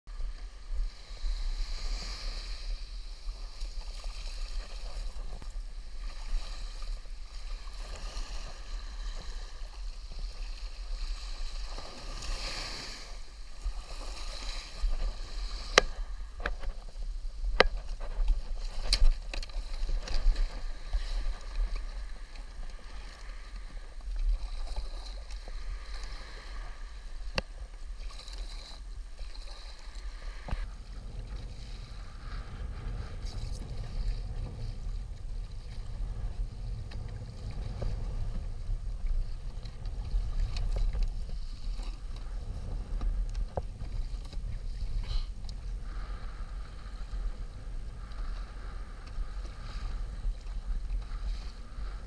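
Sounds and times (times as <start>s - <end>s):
water sloshing around kayak: 0.1s - 52.0s
wind rumble on microphone: 0.1s - 52.0s.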